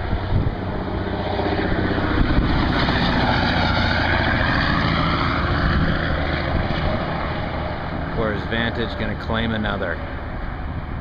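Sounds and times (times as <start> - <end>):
diesel engine drone: 0.0 - 11.0
heavy trucks passing: 0.0 - 11.0.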